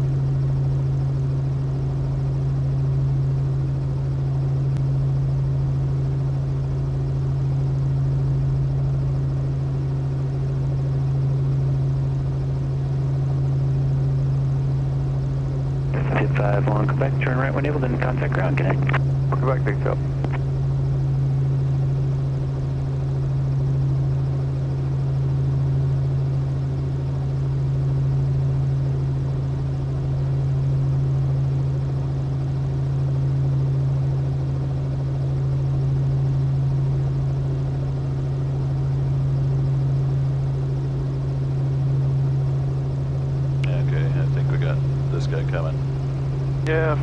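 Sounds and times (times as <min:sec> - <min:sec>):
helicopter drone: 0:00.0 - 0:47.0.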